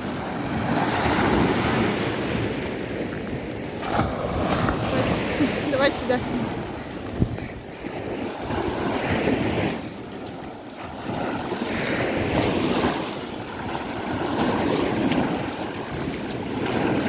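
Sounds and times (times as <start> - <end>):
sea waves breaking on beach: 0.0 - 17.0
wind buffeting microphone: 0.0 - 17.0.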